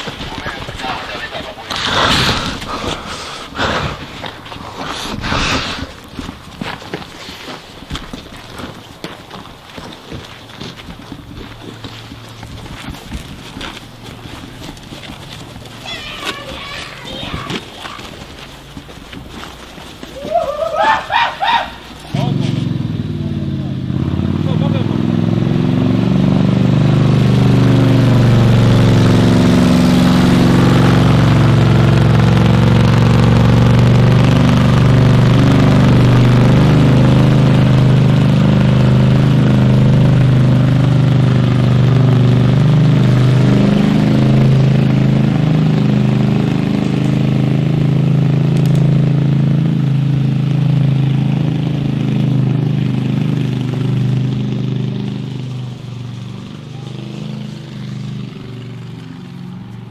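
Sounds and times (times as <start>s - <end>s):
large engine running: 0.0s - 59.9s.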